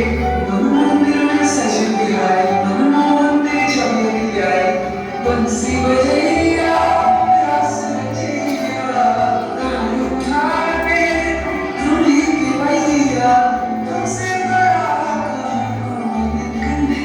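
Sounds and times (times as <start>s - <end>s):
musical accompaniment with bass: 0.0s - 17.0s
several voices singing: 0.0s - 17.0s.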